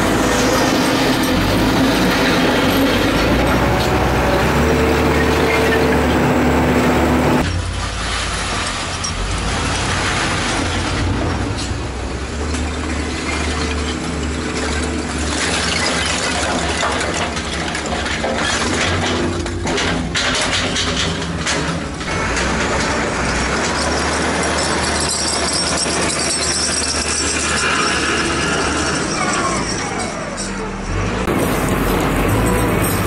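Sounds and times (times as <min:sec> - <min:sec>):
diesel engine under load: 0:00.0 - 0:33.0.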